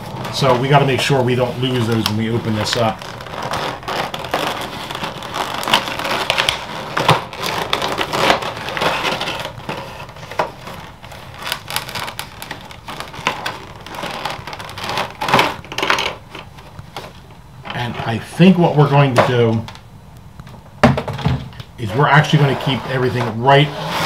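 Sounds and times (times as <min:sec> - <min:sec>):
plastic packaging crackling: 0:00.0 - 0:23.9.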